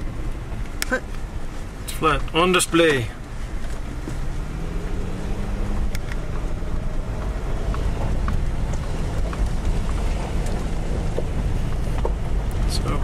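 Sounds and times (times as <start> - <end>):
vehicle engine and tyres on gravel: 0.0 - 13.0.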